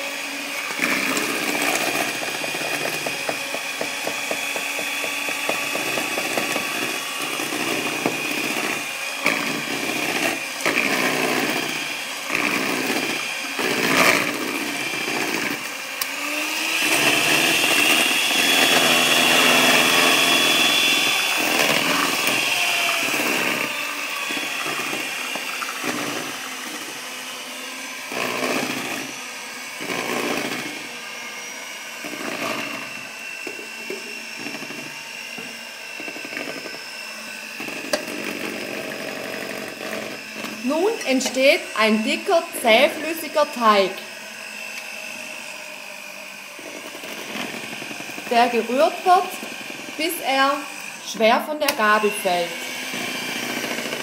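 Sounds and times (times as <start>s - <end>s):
electric hand mixer running: 0.0s - 54.0s.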